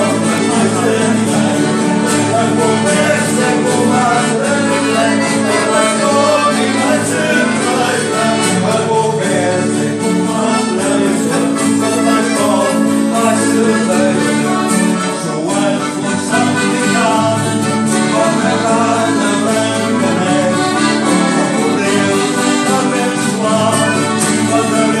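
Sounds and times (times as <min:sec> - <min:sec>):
accordion playing: 0:00.0 - 0:25.0
acoustic guitars playing: 0:00.0 - 0:25.0.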